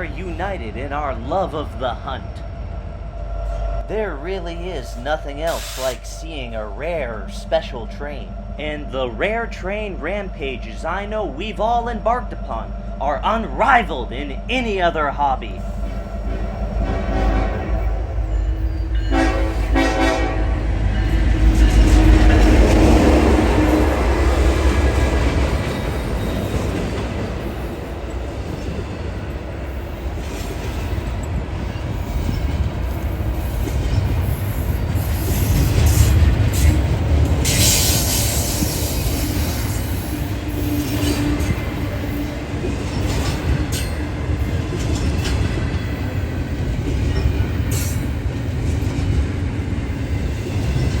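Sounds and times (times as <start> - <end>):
train wheels rumbling: 0.0 - 51.0.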